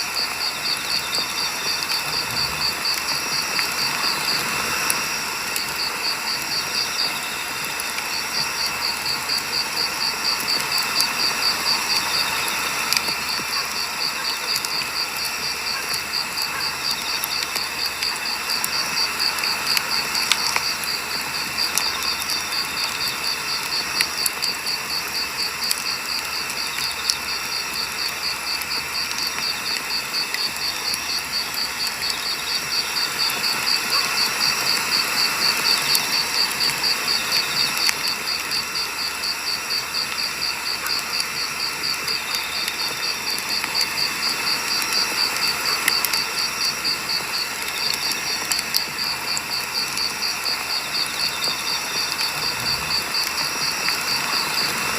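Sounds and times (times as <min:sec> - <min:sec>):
crickets chirping: 0:00.0 - 0:54.9
firewood crackling and popping: 0:00.0 - 0:54.9.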